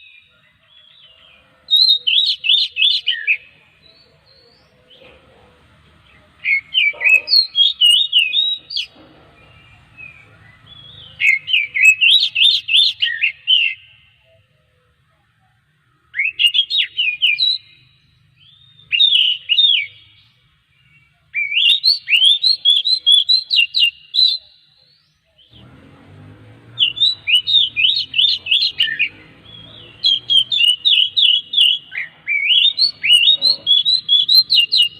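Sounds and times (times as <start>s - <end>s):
bird singing whistled notes: 0.0s - 4.8s, 6.4s - 14.3s, 16.1s - 25.7s, 26.5s - 34.9s.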